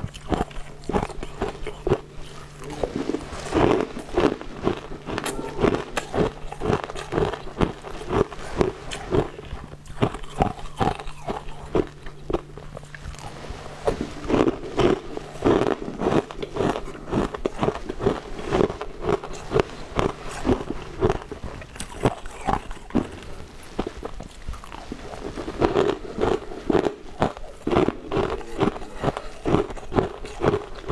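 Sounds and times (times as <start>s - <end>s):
chewing ice cubes: 0.0s - 30.9s.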